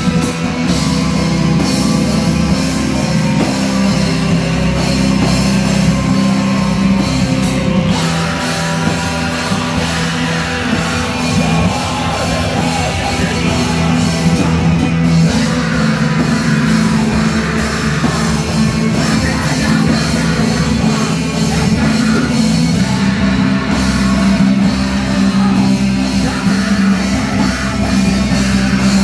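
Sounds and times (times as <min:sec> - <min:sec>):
bass guitar: 0:00.0 - 0:29.0
distorted electric guitars: 0:00.0 - 0:29.0
drum kit: 0:00.0 - 0:29.0
keyboard: 0:00.0 - 0:29.0
person singing: 0:01.6 - 0:29.0.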